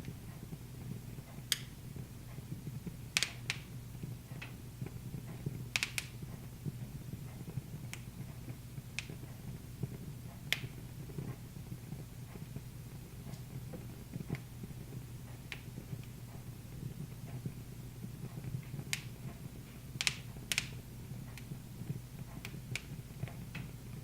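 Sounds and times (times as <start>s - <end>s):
low rumble of burning fire: 0.0s - 24.0s
wood fire crackling and popping: 0.0s - 24.0s.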